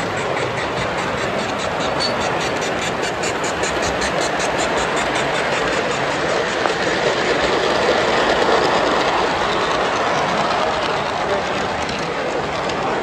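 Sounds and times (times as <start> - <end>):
fast rhythmic clicking: 0.0 - 13.0
model train running on track: 0.0 - 13.0.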